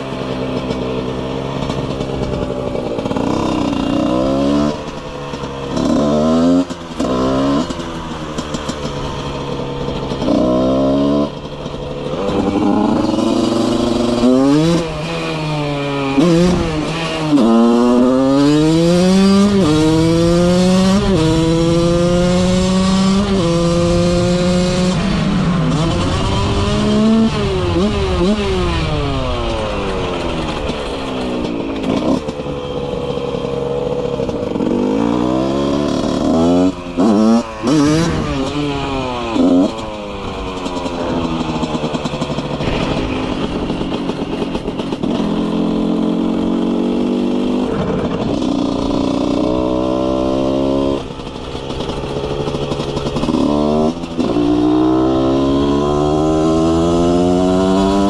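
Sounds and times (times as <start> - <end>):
two-stroke motorcycle accelerating: 0.0 - 58.0.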